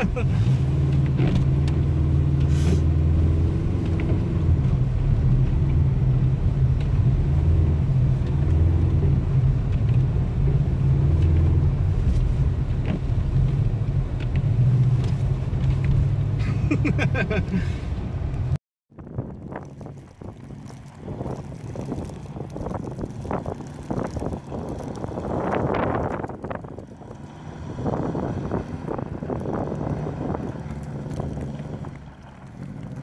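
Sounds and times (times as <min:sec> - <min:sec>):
car engine droning: 0:00.0 - 0:33.0.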